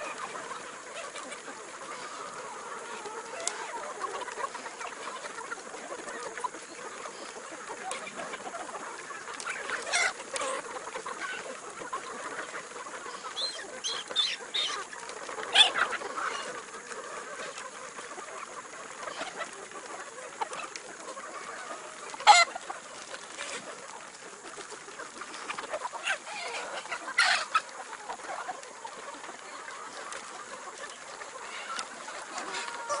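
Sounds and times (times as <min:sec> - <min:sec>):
chickens clucking: 0:00.0 - 0:33.0
murmur of flock: 0:00.0 - 0:33.0.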